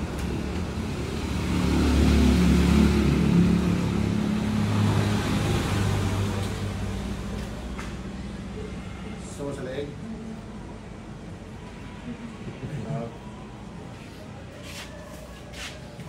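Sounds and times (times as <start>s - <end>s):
passing vehicle engine hum: 0.0s - 16.0s.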